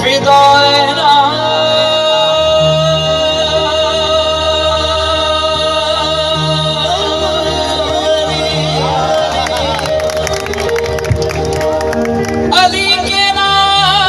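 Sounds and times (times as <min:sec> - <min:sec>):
devotional music through speakers: 0:00.0 - 0:14.0.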